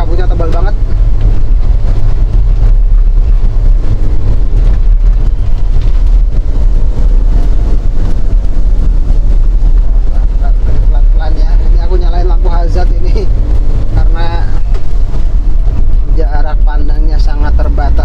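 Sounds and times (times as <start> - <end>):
vehicle rumble: 0.0 - 18.0
wind: 0.0 - 18.0.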